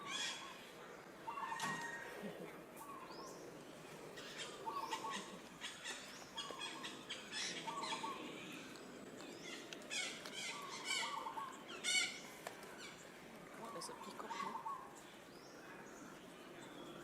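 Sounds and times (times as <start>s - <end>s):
harsh bird calls: 0.0s - 2.2s, 2.8s - 17.0s.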